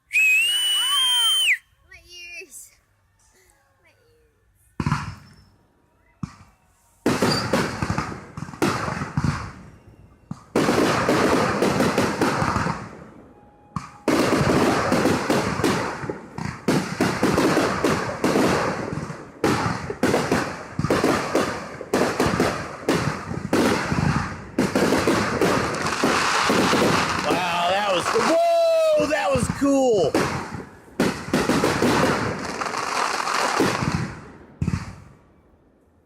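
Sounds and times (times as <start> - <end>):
fireworks bangs: 4.8 - 5.5, 6.2 - 35.4.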